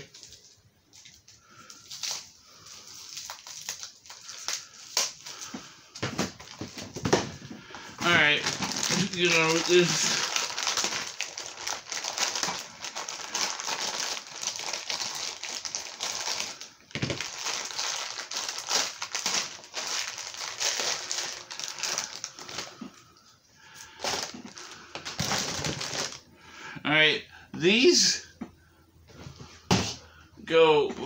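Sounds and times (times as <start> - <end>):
plastic packaging crumpling: 0.0 - 26.3.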